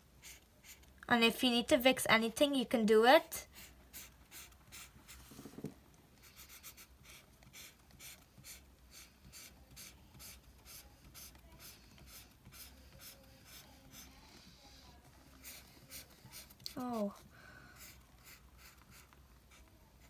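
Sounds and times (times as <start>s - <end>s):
marker scratching on paper: 0.2s - 1.0s, 3.4s - 20.0s.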